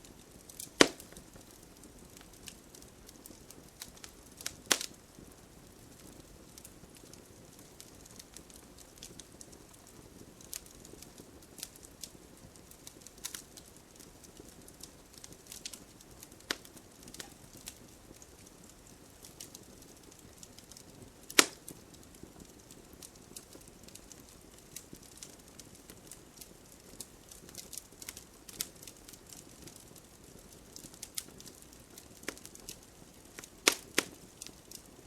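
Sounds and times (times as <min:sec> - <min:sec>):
campfire crackling and popping: 0:00.0 - 0:35.0
faint steady hiss: 0:00.0 - 0:35.0.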